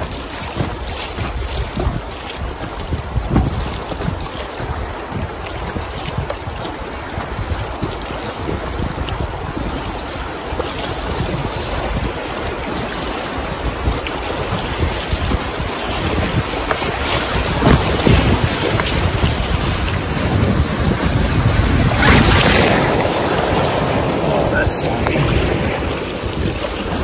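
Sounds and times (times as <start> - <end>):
rapids rushing and splashing: 0.0 - 27.0
wind buffeting microphone: 0.0 - 27.0.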